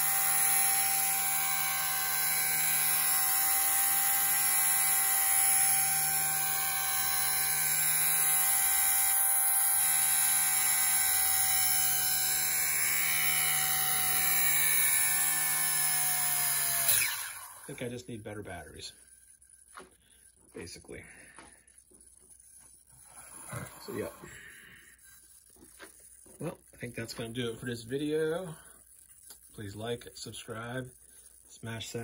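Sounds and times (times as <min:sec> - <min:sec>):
high-pitched motor whine: 0:00.0 - 0:29.0.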